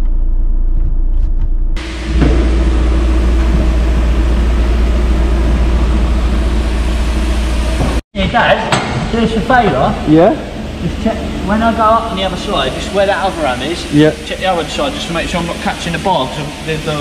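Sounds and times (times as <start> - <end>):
low engine rumble: 0.0 - 17.0
mechanical running hum and hiss: 1.8 - 8.0, 8.8 - 17.0.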